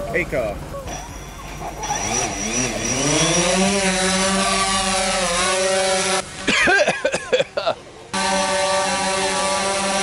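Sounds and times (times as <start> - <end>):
drone propellers whining: 0.0 - 7.2, 8.1 - 10.0.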